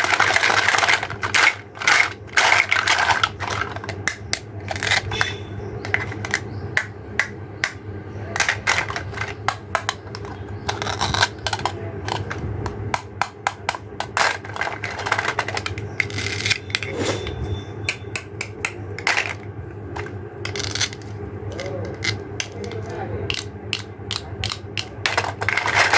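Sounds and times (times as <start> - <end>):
plastic toy pieces clicking: 0.0 - 7.8, 8.4 - 16.8, 20.0 - 25.9
steady low hum: 0.0 - 25.9.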